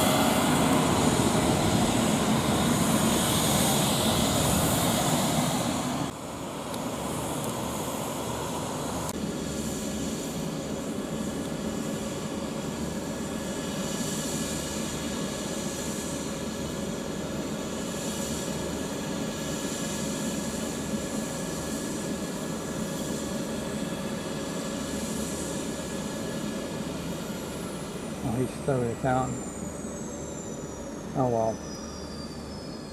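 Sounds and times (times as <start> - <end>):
helicopter rotor noise: 0.0 - 32.9
helicopter turbine whine: 0.0 - 32.9.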